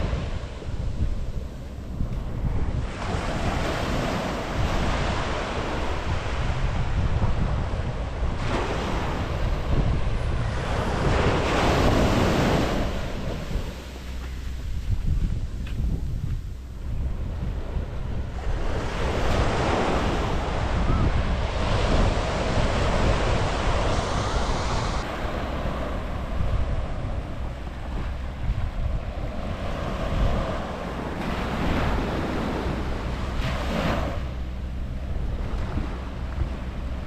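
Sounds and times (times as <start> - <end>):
small waves on sandy shore: 0.0 - 37.0
wind rumbling on microphone: 0.0 - 37.0.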